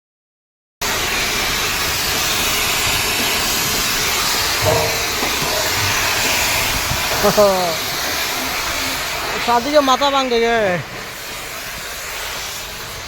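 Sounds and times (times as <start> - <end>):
loud hiss of escaping gas: 0.8 - 13.0.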